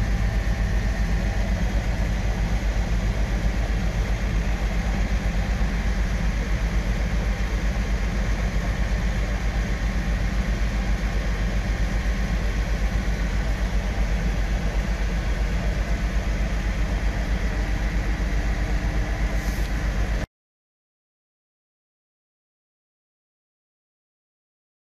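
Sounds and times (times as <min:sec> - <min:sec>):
boat engines droning: 0:00.0 - 0:20.3.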